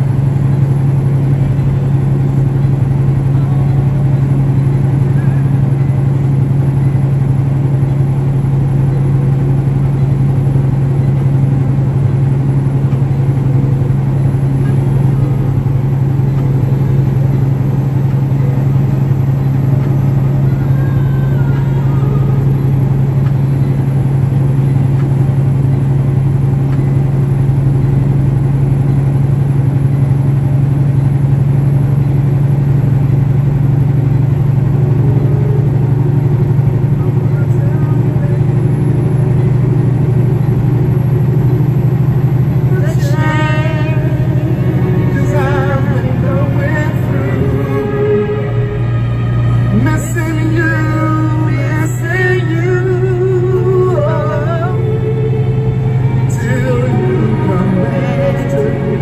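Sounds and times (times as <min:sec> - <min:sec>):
truck diesel engine drone: 0:00.0 - 0:59.0.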